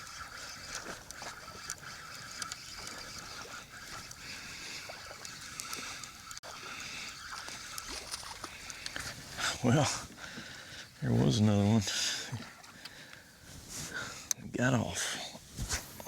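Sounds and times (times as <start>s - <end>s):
water lapping around kayak: 0.0s - 14.3s.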